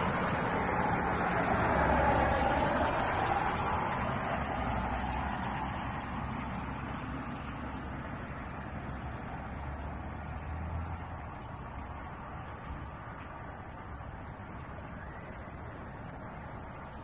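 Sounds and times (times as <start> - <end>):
passing vehicle rushing: 0.0 - 17.0.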